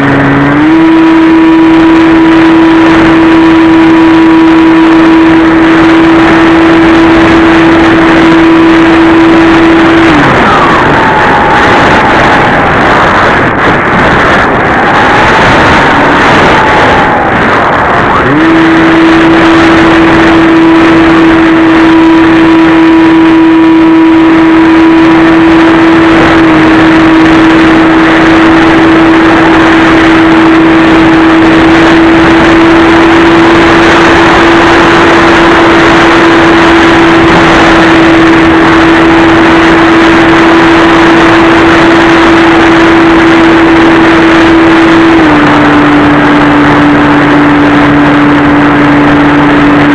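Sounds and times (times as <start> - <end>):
wind rush: 0.0 - 49.9.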